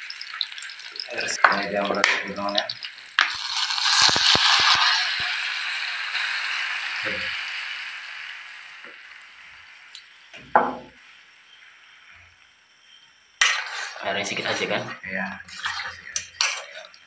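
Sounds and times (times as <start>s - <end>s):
seafood sizzling in a frying pan: 0.0s - 17.0s.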